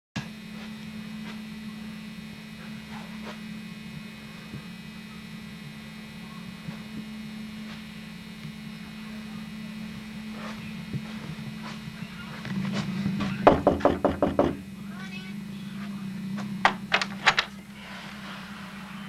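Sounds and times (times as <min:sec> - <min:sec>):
electrical mains hum: 0:00.2 - 0:19.0
faint high whine: 0:00.2 - 0:19.0.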